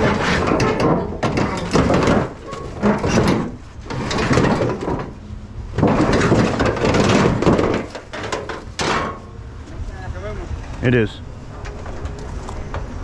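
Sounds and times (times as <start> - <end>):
scrap car parts knocking and scraping: 0.0 - 9.9, 11.5 - 13.0.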